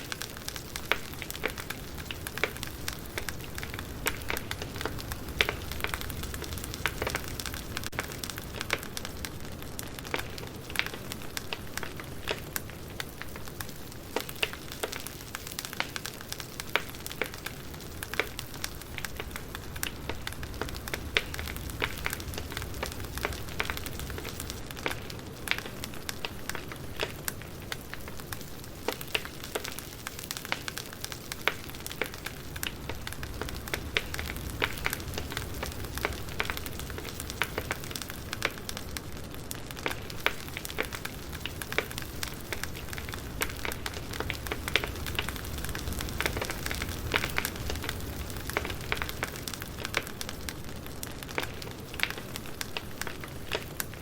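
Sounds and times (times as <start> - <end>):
firewood crackling: 0.0 - 54.0
low rumble of flame: 0.0 - 54.0.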